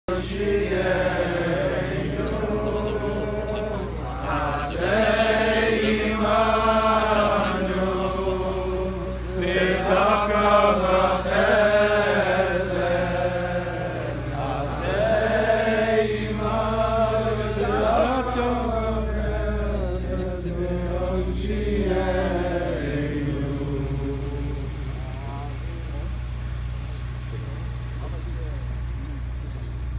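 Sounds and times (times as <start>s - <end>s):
men singing in unison: 0.1s - 25.1s
low steady rumble: 0.1s - 29.9s.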